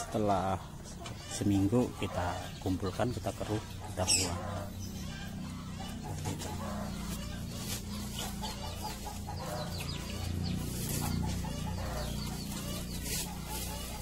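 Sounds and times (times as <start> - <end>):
chickens clucking and chirping: 0.0 - 14.0
steady low hum: 0.0 - 14.0.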